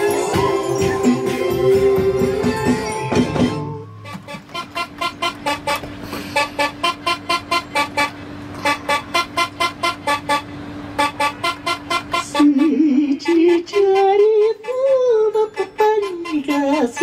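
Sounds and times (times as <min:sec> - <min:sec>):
toy horns tooting: 0:02.8 - 0:17.0.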